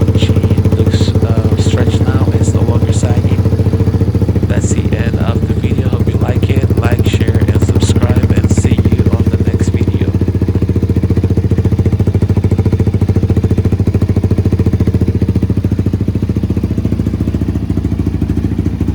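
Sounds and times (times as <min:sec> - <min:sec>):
dirt bike engine idling: 0:00.0 - 0:18.9.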